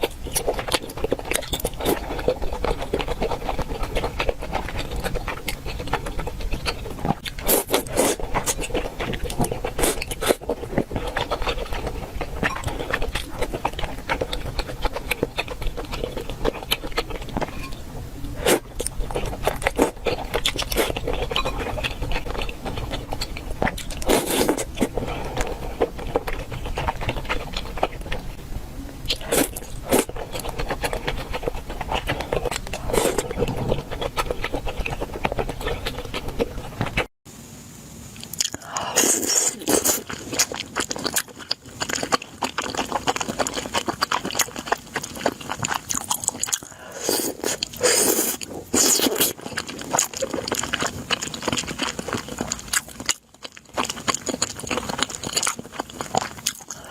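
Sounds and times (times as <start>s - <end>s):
person chewing crunchy food: 0.0s - 37.1s, 38.2s - 56.9s.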